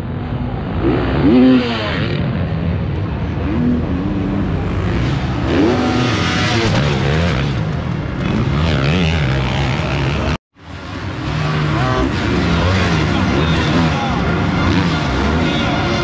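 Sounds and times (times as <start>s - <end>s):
motocross bikes revving past: 0.7s - 16.0s.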